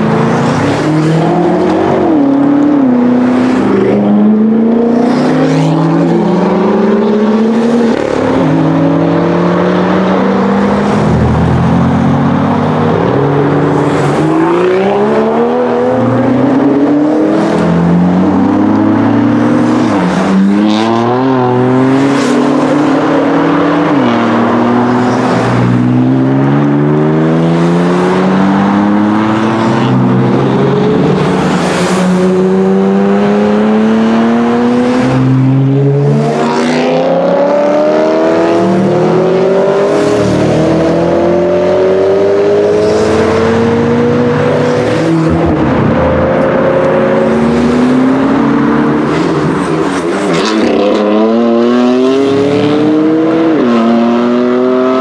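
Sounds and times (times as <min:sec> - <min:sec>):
cars accelerating hard: 0:00.0 - 0:55.0.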